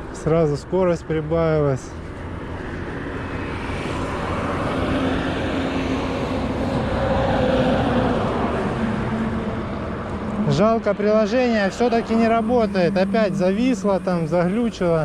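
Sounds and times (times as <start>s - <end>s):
vehicle passing on highway: 0.0s - 15.0s.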